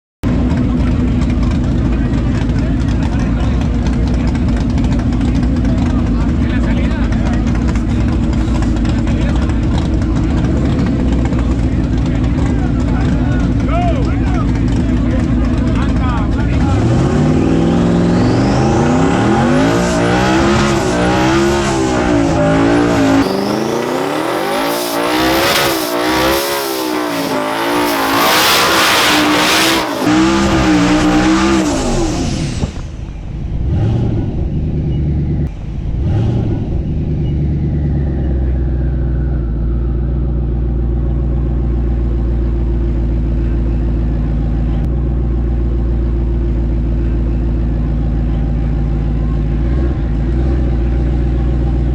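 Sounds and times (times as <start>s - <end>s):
drag car engine accelerating: 0.2s - 51.9s.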